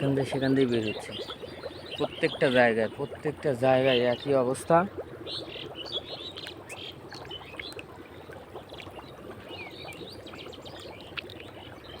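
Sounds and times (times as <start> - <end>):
birds chirping: 0.0 - 12.0
gas bubbling through wet ground: 0.0 - 12.0.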